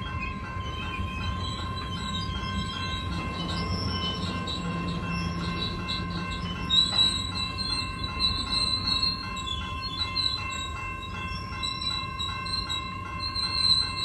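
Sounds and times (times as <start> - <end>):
crossing bell ringing: 0.0 - 14.0
high wheel squeal: 0.0 - 14.0
train wheels rumbling: 0.0 - 14.0.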